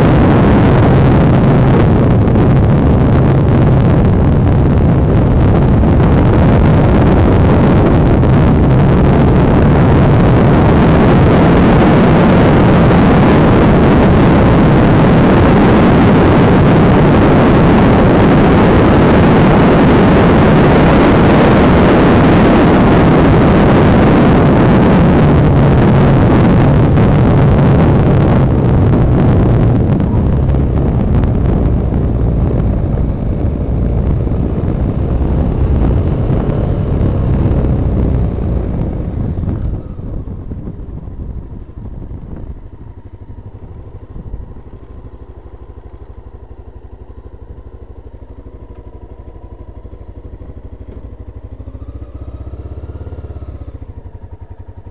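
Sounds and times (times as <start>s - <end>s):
motorcycle engine running: 0.0s - 54.9s
wind rush on microphone: 0.0s - 54.9s.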